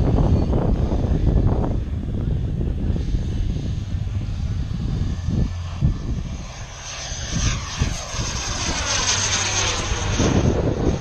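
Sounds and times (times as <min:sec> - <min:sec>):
model airplane engine and propeller: 0:00.0 - 0:11.0
wind buffeting microphone: 0:00.0 - 0:11.0.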